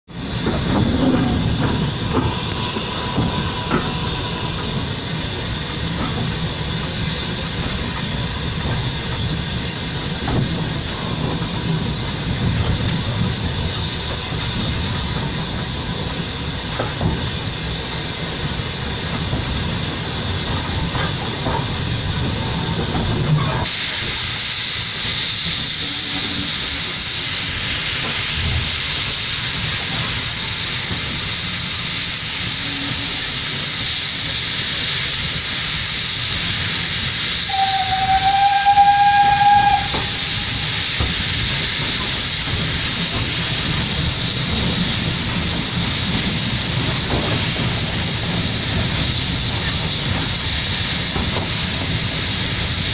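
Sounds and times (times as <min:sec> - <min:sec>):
loud hiss of steam: 0:00.1 - 0:52.9
steam locomotive running: 0:00.1 - 0:52.9.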